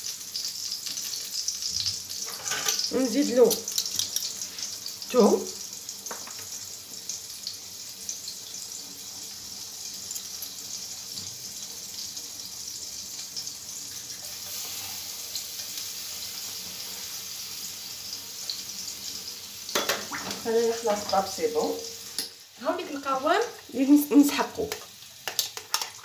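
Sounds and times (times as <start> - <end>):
garlic sizzling in a frying pan: 0.0 - 26.0.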